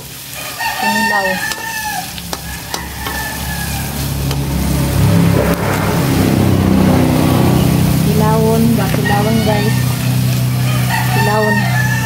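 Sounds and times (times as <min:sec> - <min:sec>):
vegetables sizzling in a wok: 0:00.0 - 0:12.0
rooster crowing: 0:00.3 - 0:12.0
low rumble: 0:01.4 - 0:12.0.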